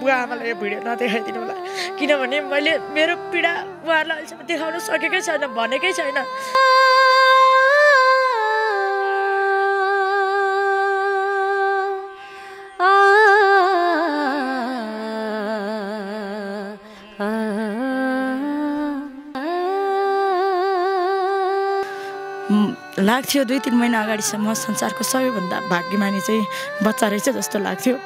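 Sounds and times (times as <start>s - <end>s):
wordless vocal melody: 0.0s - 28.0s.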